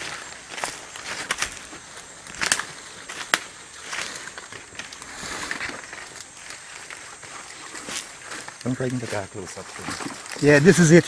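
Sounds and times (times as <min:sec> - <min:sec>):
twigs snapping: 0:00.0 - 0:09.1, 0:09.7 - 0:10.6
footsteps crunching through leaves: 0:00.0 - 0:11.0.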